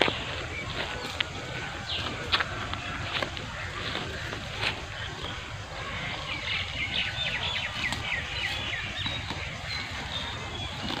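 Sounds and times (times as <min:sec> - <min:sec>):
low outdoor rumble: 0:00.0 - 0:11.0
small bird chirping: 0:00.0 - 0:11.0.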